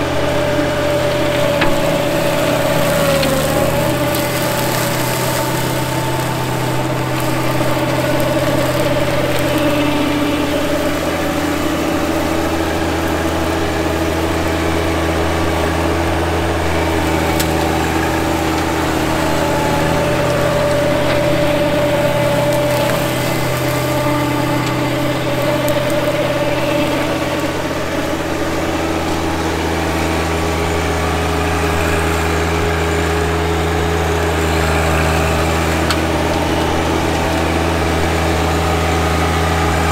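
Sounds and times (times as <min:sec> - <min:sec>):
flail mower humming: 0:00.0 - 0:39.9
tractor diesel engine droning: 0:00.0 - 0:39.9.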